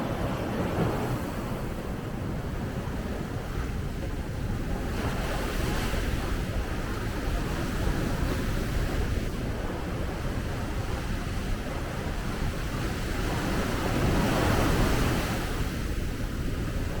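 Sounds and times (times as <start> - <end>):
sea waves breaking on a beach: 0.0 - 17.0
wind buffeting the microphone: 0.0 - 17.0.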